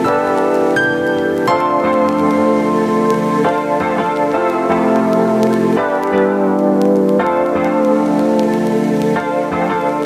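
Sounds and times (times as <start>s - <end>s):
sustained keyboard chords: 0.0s - 10.0s.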